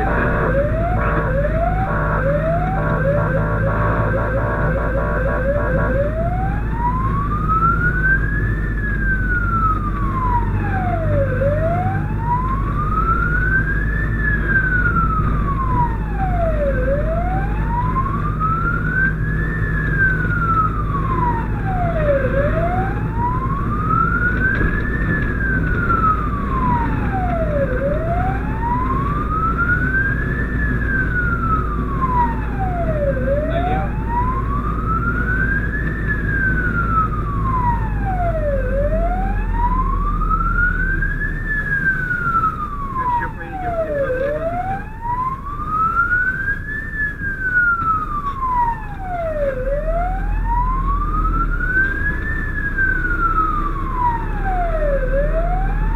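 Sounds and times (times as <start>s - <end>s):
road noise: 0.0s - 55.9s
truck engine rumble: 0.0s - 55.9s
wailing siren: 0.0s - 55.9s.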